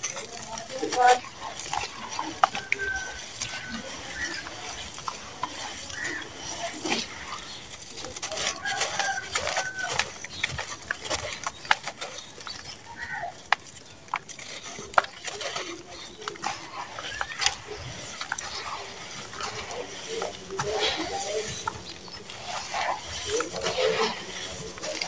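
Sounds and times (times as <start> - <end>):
hands crushing gritty cement: 0.0 - 25.0
animal calls: 0.9 - 13.9, 14.5 - 25.0.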